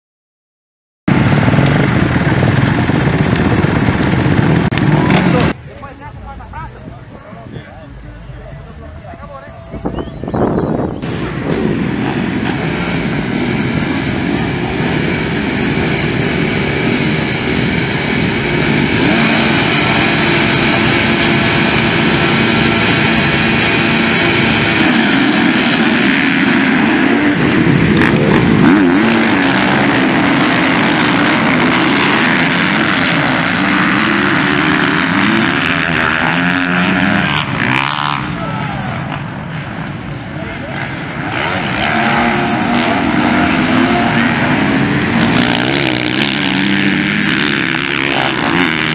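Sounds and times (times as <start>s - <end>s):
motocross bike engines revving: 1.1s - 48.9s.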